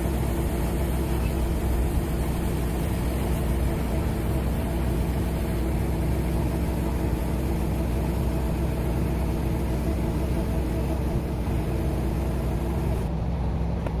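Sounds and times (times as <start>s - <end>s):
low drone of power unit: 0.0s - 14.0s.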